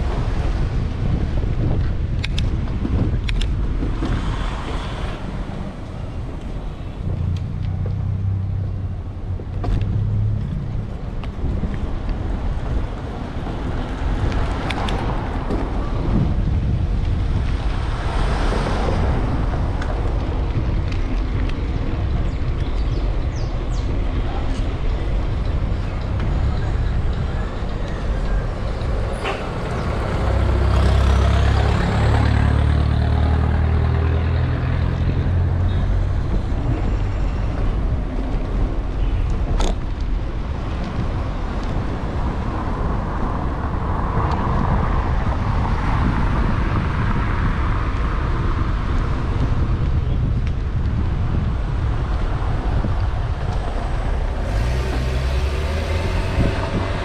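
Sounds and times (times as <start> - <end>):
cars and trucks passing: 0.0 - 57.0
heavy low rumble: 0.0 - 57.0
road noise rush: 0.0 - 57.0.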